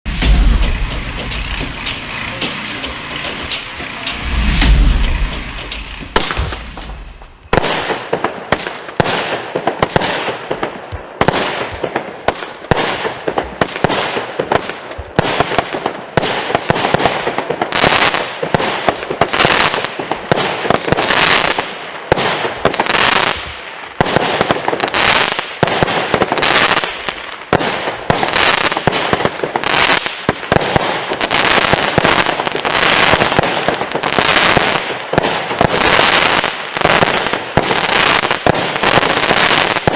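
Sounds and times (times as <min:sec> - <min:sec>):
firework shots and bursts: 0:00.1 - 0:39.9.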